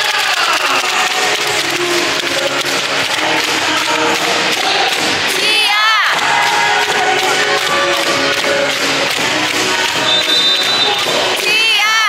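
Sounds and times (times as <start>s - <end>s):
plastic cheer sticks banging: 0.0s - 11.6s
crowd cheering and chanting: 0.0s - 12.0s
loud cheer music: 0.0s - 12.0s.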